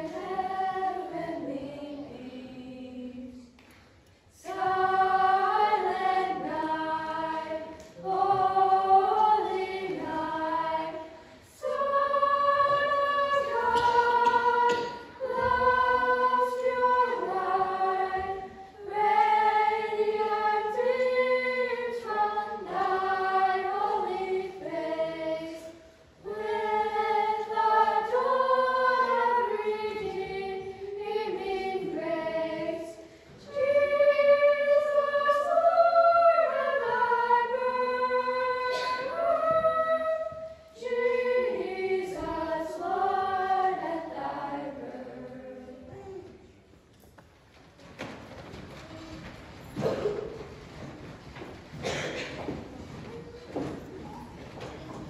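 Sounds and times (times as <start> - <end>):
youth choir singing a cappella: 0.0 - 3.6, 4.3 - 46.8, 51.8 - 55.0.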